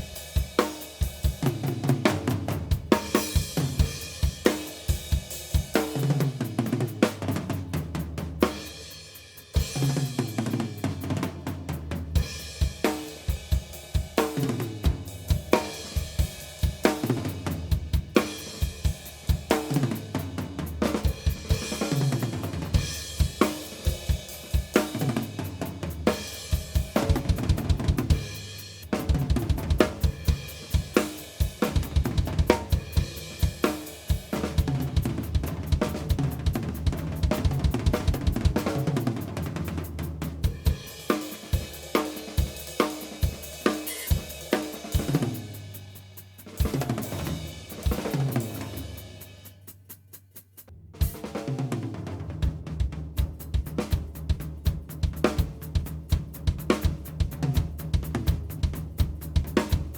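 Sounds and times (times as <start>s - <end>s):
drum kit playing a groove: 0.0s - 59.9s.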